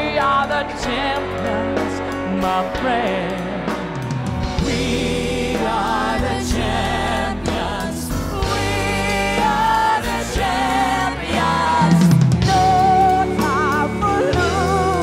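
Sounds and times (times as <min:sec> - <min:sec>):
live band with drum kit: 0:00.0 - 0:15.0.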